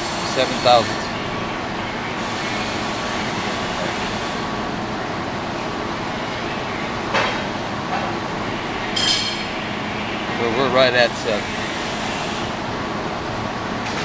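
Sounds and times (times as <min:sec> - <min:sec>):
workshop background noise: 0:00.0 - 0:14.0.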